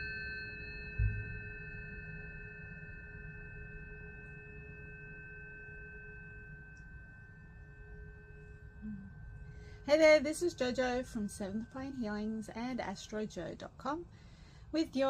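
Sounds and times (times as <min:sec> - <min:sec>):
tuning forks ringing: 0:00.0 - 0:15.0.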